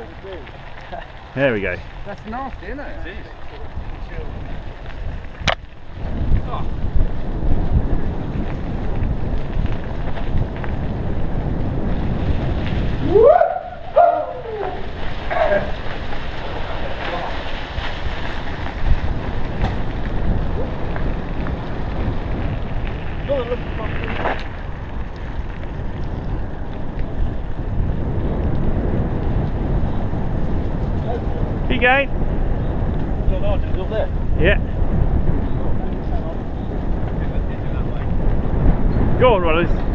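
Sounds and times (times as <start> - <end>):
bike rumbling over dirt trail: 0.0 - 39.9
tyres rolling on gravel: 0.0 - 39.9
wind buffeting microphone: 0.0 - 39.9.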